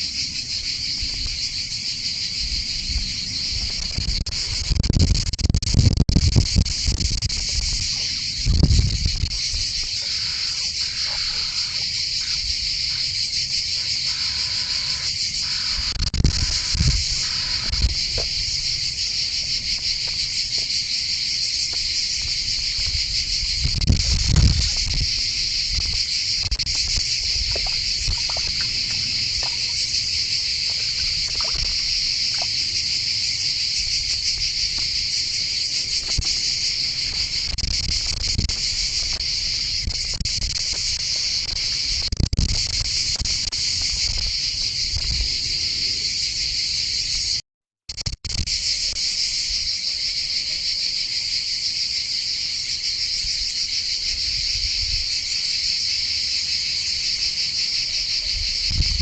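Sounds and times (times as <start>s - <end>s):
insects buzzing: 0.0s - 47.4s, 48.0s - 59.0s.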